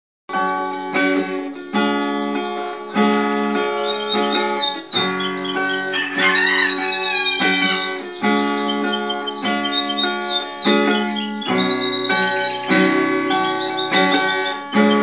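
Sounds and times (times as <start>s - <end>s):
strummed acoustic guitar: 0.3s - 15.0s.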